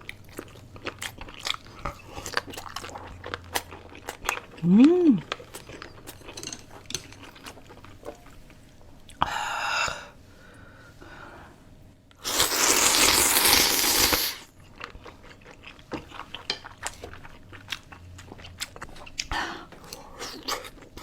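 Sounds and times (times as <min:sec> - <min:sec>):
person chewing food: 0:00.0 - 0:09.3, 0:12.2 - 0:21.0.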